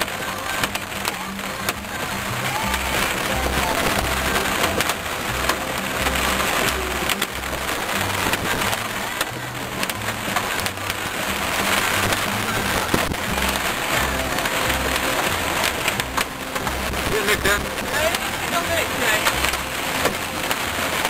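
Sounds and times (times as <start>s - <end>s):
background music with bass line: 0.0s - 21.0s
rain hitting a car: 0.0s - 21.0s.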